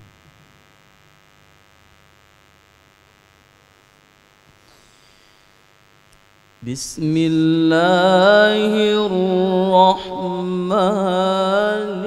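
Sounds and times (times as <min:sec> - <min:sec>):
faint electrical mains hum: 0:00.0 - 0:12.0.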